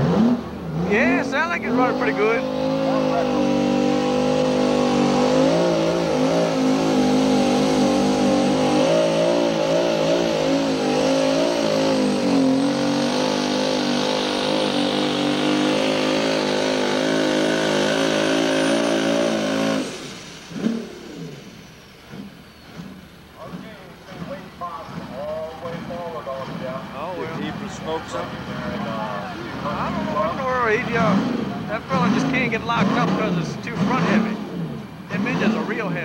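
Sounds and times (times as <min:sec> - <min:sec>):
tractor engine at full throttle: 0:00.0 - 0:36.0.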